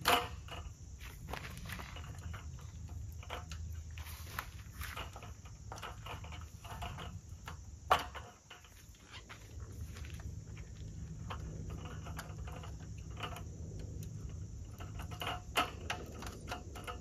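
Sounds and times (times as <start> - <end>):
folding metal table clicks and rattles: 0.0 - 9.1, 9.7 - 17.0
steady low hum: 0.0 - 17.0.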